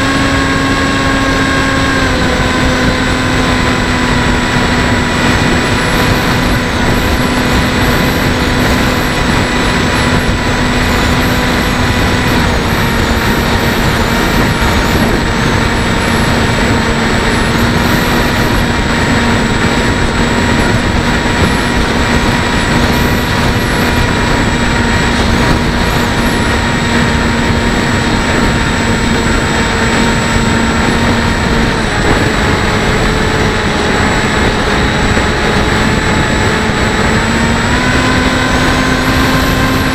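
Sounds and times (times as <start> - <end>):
electric motor propeller whine: 0.0 - 39.9
wind rush over microphone: 0.0 - 39.9.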